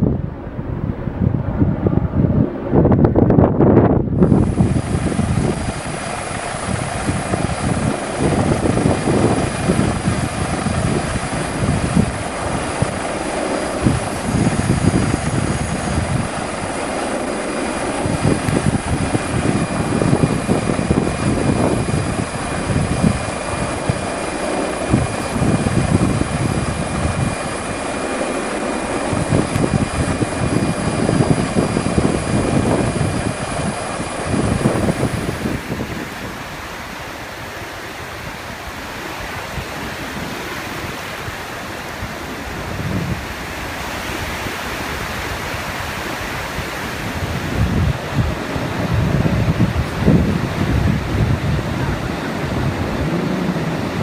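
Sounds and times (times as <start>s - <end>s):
helicopter engine and rotor: 0.0s - 54.0s
faint high whine: 3.8s - 54.0s.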